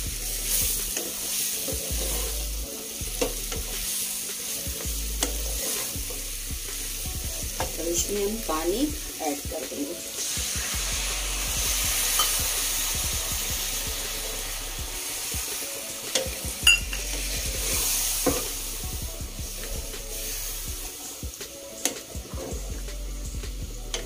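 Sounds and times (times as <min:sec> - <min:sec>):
spatula stirring and scraping: 0:00.0 - 0:08.2, 0:10.2 - 0:22.9
curry sizzling in a pan: 0:00.0 - 0:24.0.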